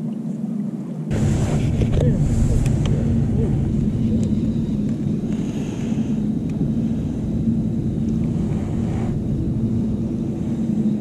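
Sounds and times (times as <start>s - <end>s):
boat motor humming: 1.1s - 11.0s.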